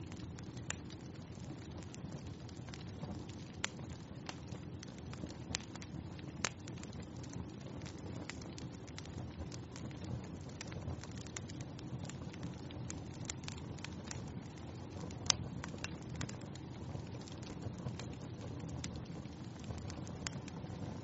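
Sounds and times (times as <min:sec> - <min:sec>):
burning wood crackling: 0:00.0 - 0:21.0
low rush of flames: 0:00.0 - 0:21.0.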